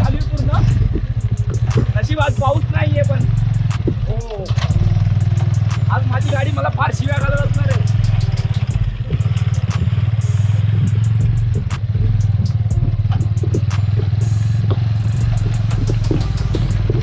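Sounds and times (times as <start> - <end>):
motorcycle engine running: 0.0 - 17.0
sharp clicks and rattles: 0.0 - 17.0.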